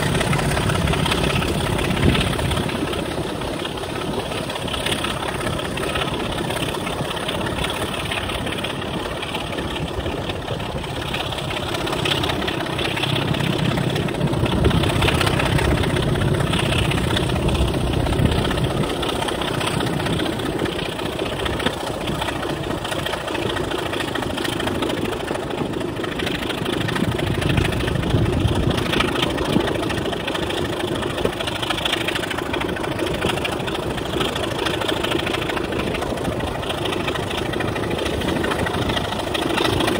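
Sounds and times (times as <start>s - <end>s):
diesel locomotive engine running: 0.0s - 39.9s
running train: 0.0s - 39.9s.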